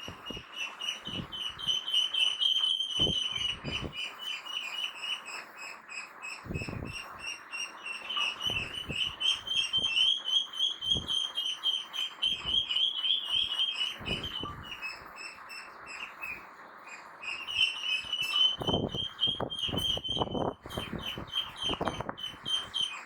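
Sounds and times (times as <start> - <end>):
ducklings peeping: 0.0 - 23.0.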